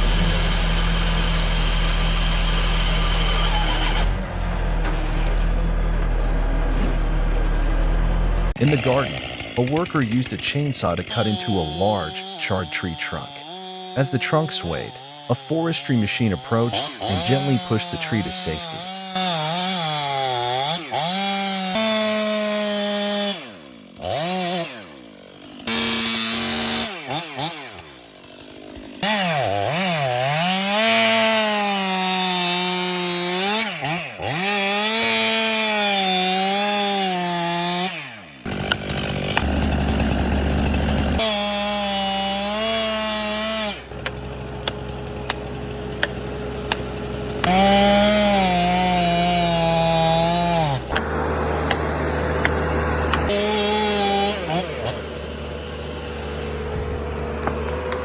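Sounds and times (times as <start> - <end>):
chainsaw cutting wood: 0.0 - 4.3, 8.5 - 58.0.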